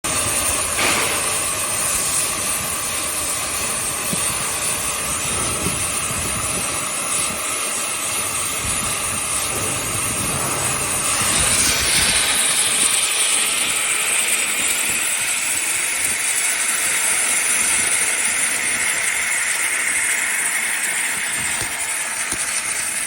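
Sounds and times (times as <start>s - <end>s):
cutting torch hissing: 0.1s - 23.0s.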